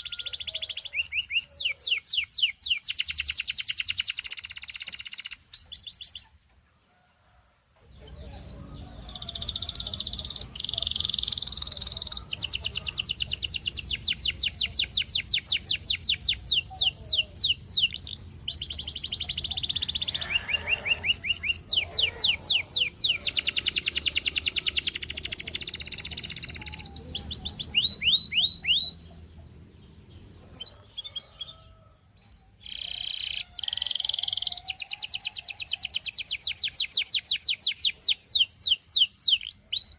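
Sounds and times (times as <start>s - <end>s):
canary singing trills: 0.0s - 6.4s, 7.9s - 39.9s.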